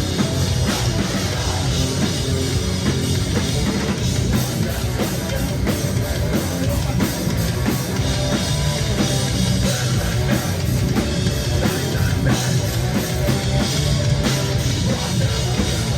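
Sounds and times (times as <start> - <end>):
bass guitar: 0.0 - 15.9
distorted guitar: 0.0 - 15.9
drum kit: 0.0 - 15.9.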